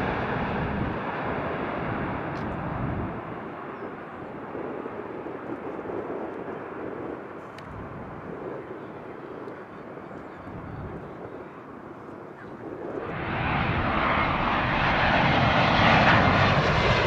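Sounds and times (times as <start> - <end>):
distant jet engine: 0.0 - 17.0.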